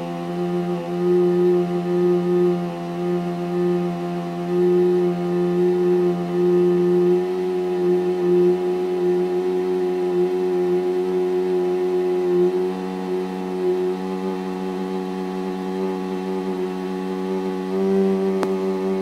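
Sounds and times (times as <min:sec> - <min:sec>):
balloon neck droning: 0:00.0 - 0:19.0.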